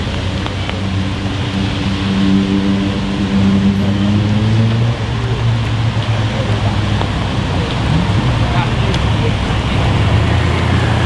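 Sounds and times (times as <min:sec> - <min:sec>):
car engine deep drone: 0:00.0 - 0:11.0.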